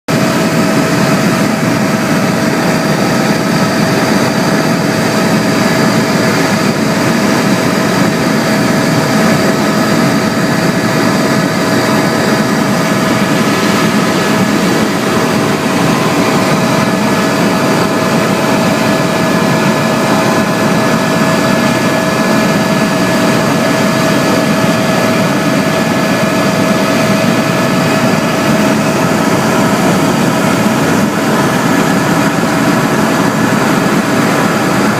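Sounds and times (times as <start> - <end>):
aircraft engine drone: 0.1 - 34.9.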